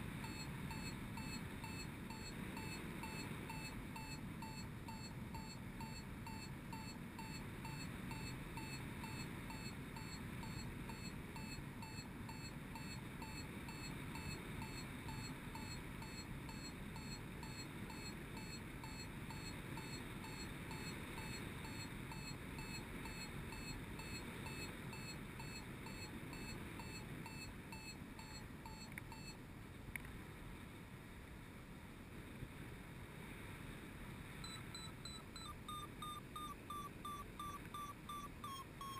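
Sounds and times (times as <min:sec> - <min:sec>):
variometer beeping: 0:00.0 - 0:29.4, 0:34.4 - 0:38.9.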